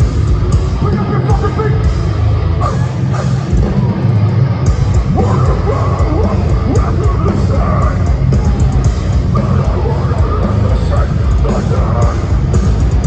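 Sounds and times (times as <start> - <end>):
heavy band playing live: 0.0 - 13.0.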